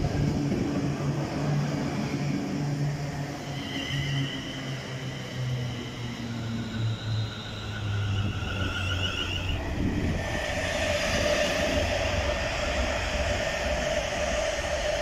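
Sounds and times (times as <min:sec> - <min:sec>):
electric train traction whine: 0:00.0 - 0:15.0
wheels rumbling on rails: 0:00.0 - 0:15.0.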